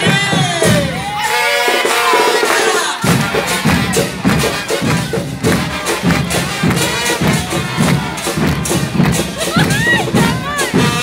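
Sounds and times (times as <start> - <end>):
bass drums: 0.0 - 1.3, 3.0 - 11.0.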